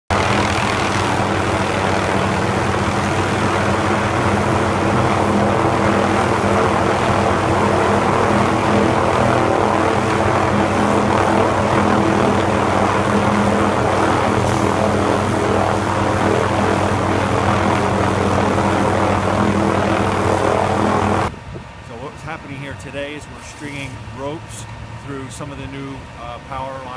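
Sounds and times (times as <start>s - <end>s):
helicopter hovering: 0.1s - 26.9s.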